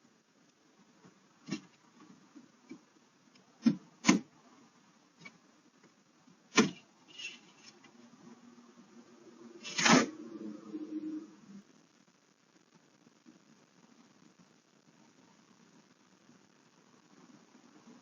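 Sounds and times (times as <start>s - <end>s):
low steady background noise: 0.0s - 18.0s.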